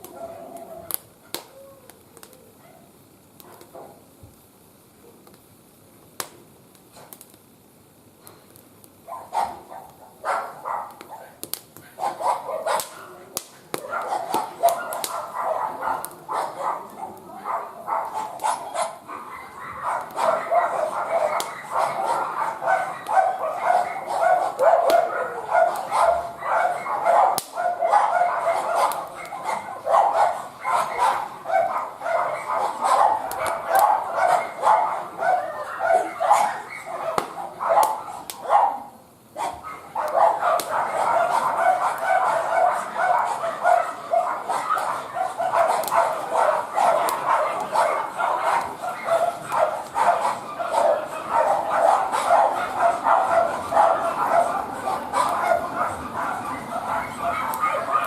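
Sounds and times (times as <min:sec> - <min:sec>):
dog barking and yipping: 0:09.1 - 0:13.2, 0:13.8 - 0:58.0.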